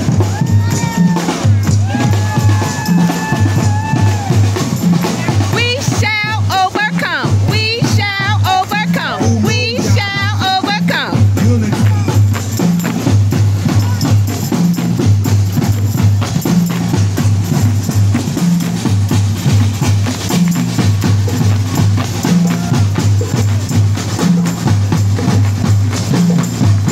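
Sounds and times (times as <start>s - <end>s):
music with bass and clicking percussion: 0.0s - 26.9s.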